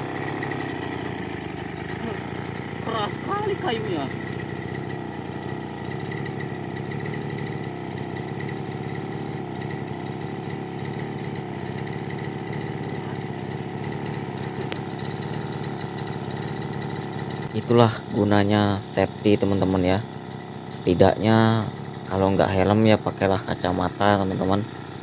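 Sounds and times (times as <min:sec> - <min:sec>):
brush cutter engine running: 0:00.0 - 0:25.0.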